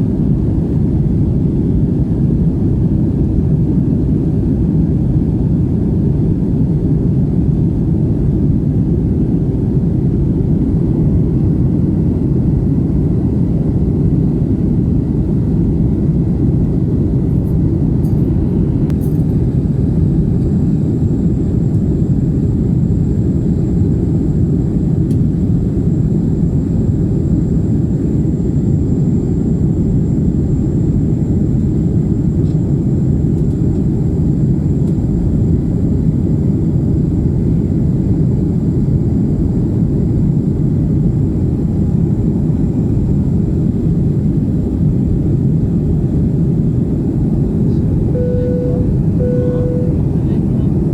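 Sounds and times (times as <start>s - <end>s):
airliner engine rumble in cabin: 0.0s - 50.9s.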